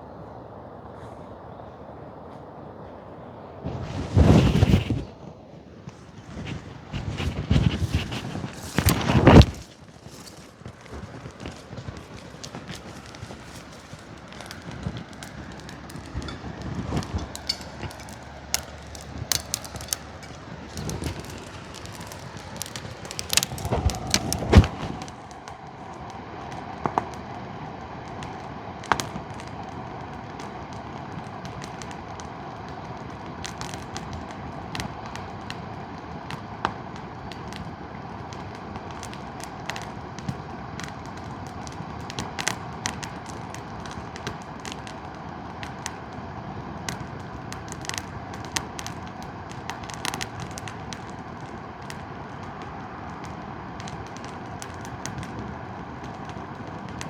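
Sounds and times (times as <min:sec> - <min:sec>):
bonfire crackling: 0:00.0 - 0:57.0
steady background hiss: 0:00.0 - 0:57.0.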